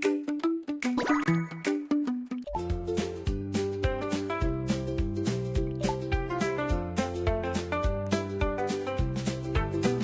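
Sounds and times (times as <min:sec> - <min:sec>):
upbeat music with plucked strings: 0:00.0 - 0:10.0.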